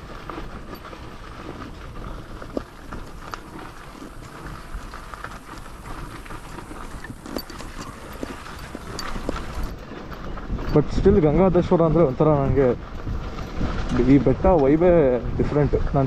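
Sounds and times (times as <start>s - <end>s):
tyres crunching over stones: 0.0s - 16.0s.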